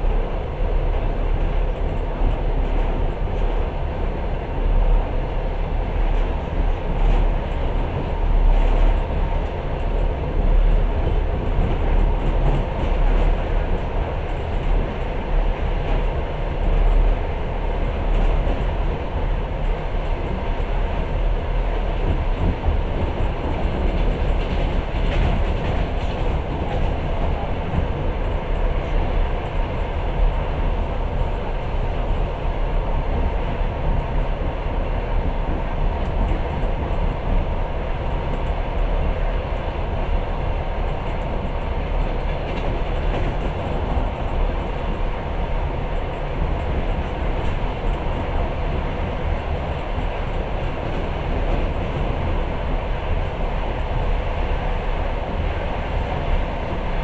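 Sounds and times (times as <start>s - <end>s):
rumble of train wheels on rails: 0.0s - 57.0s.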